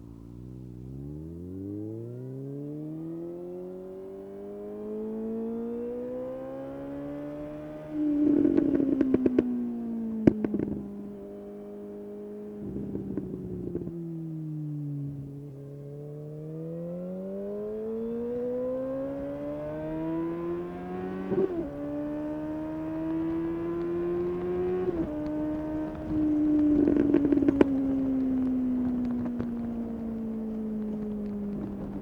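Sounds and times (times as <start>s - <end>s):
exhaust crackling: 0.0s - 32.0s
motorcycle engine accelerating: 0.0s - 32.0s.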